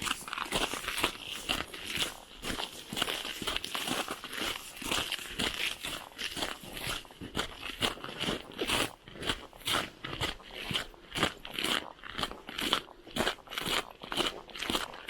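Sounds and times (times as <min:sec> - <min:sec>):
footsteps crunching: 0:00.0 - 0:15.0.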